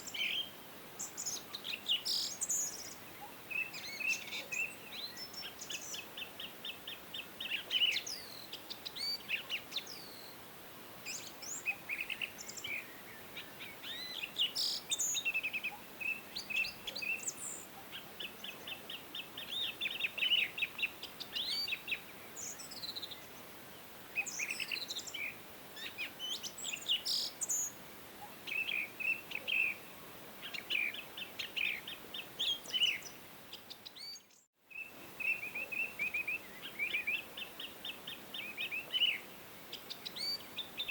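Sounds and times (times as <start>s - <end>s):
faint steady hiss: 0.0s - 40.9s
songbirds chirping and trilling: 0.0s - 40.9s.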